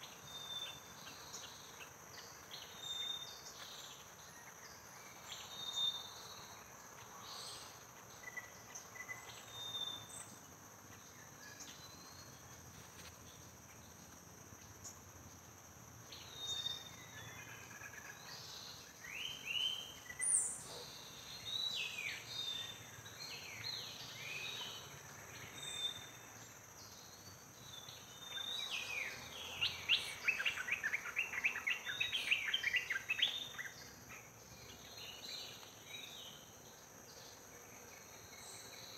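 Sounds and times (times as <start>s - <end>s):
insect drone: 0.0s - 38.9s.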